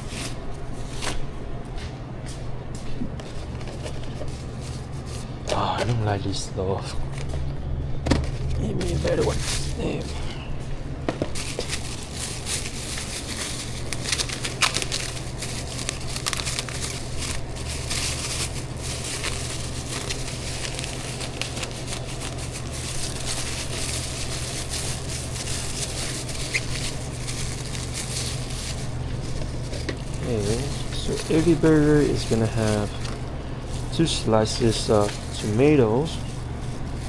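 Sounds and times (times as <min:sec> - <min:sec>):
food rustling and crinkling: 0:00.0 - 0:06.1, 0:06.8 - 0:37.0
steady low hum: 0:00.0 - 0:37.0.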